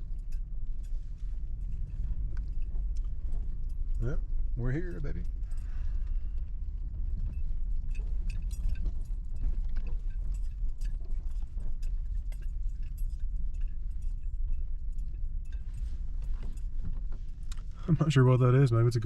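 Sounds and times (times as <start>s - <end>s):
car rumbling over dirt road: 0.0s - 13.8s, 15.5s - 19.0s.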